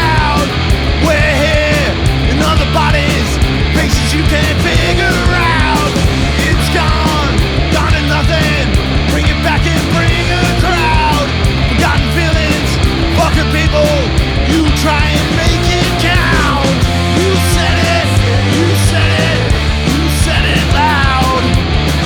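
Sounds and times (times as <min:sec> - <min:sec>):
bending lead guitar line: 0:00.0 - 0:22.0
punk rock band playing: 0:00.0 - 0:22.0.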